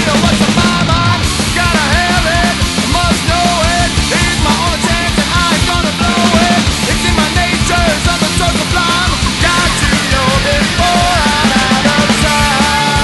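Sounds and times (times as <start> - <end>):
loud rock music with singing: 0.0 - 13.0.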